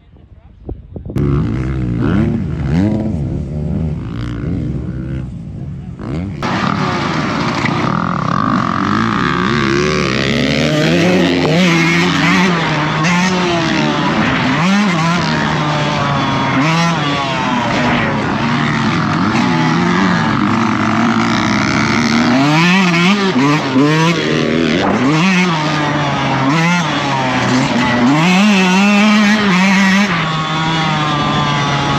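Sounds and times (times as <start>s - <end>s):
dirt bike engine revving: 1.2s - 5.4s, 6.0s - 31.9s.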